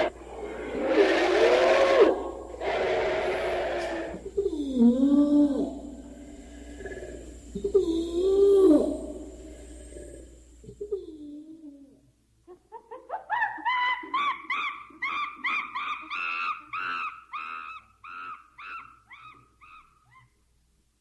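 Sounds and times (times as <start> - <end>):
high hooting animal calls: 0.0 - 11.1, 13.4 - 20.4.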